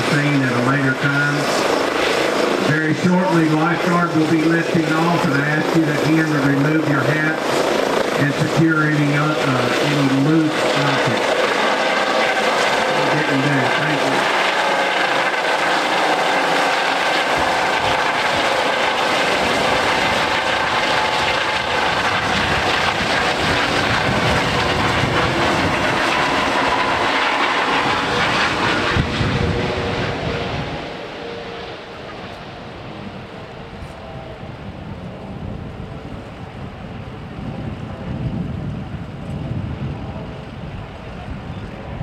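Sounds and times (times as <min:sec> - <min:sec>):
helicopter rotor and turbine: 0:00.0 - 0:42.0.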